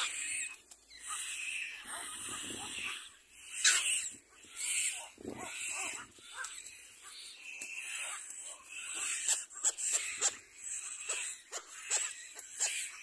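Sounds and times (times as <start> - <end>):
chicks begging calls: 0.0 - 13.0.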